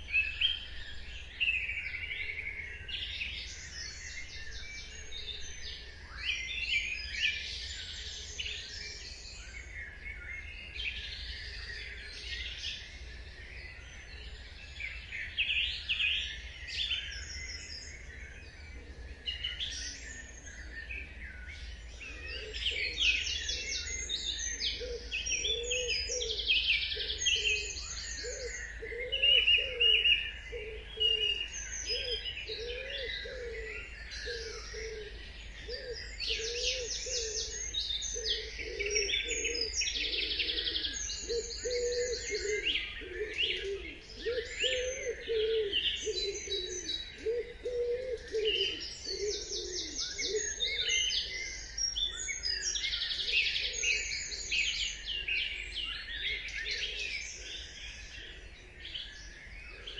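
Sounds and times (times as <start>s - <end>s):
low repeated bird call: 0.0s - 59.9s
songbirds chirping and trilling: 0.0s - 59.9s.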